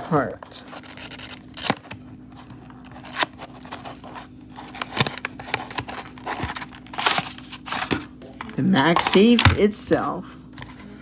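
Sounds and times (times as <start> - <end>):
packaging rustling and scraping: 0.0 - 11.0
steady low hum: 0.0 - 11.0.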